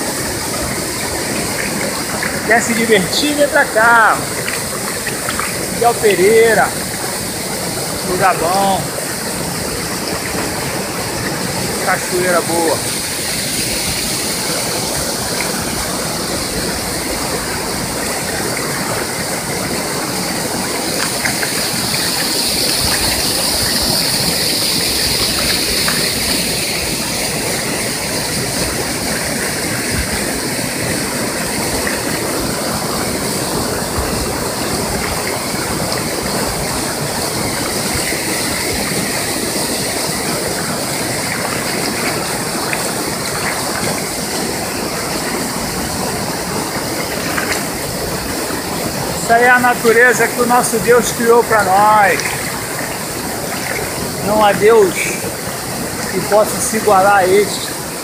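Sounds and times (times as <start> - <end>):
waterfall pouring into pool: 0.0 - 58.0.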